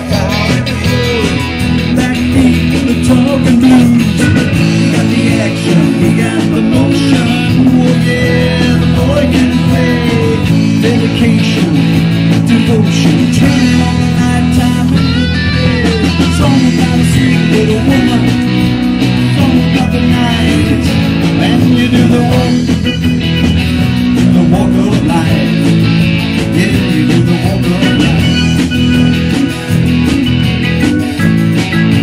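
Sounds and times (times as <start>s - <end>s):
man singing into a microphone: 0.0s - 23.1s, 24.1s - 28.8s
bass guitar: 0.0s - 32.0s
electric guitar: 0.0s - 32.0s.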